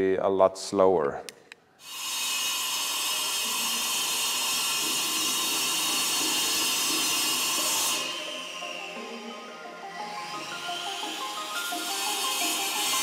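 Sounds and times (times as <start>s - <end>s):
angle grinder cutting brick: 1.8s - 13.0s.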